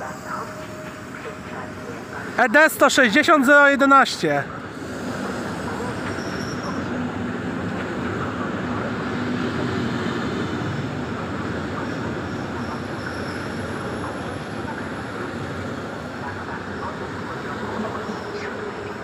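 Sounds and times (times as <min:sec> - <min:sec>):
train rolling rumble: 0:00.0 - 0:03.4, 0:04.4 - 0:19.0.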